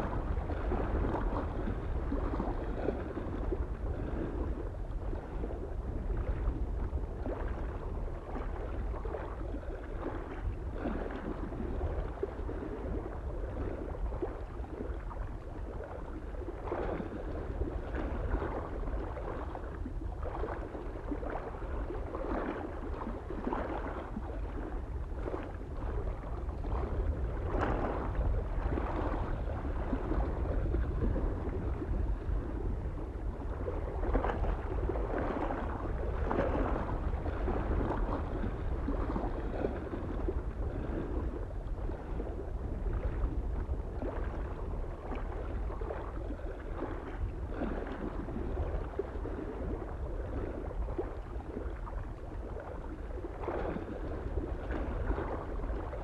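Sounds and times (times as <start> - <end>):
waves lapping against shore: 0.0 - 56.0
wind rumble on microphone: 0.0 - 56.0.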